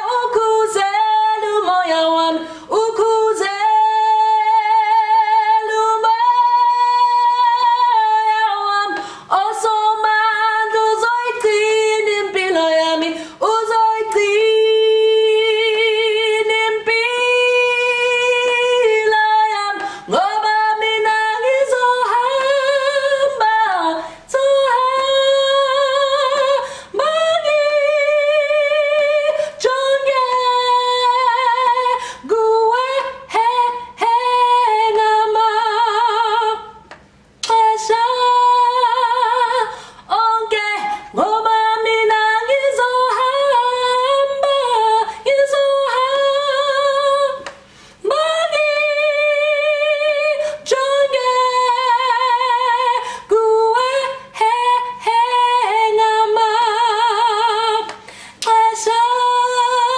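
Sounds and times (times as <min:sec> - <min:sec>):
woman singing unaccompanied: 0:00.0 - 0:59.9.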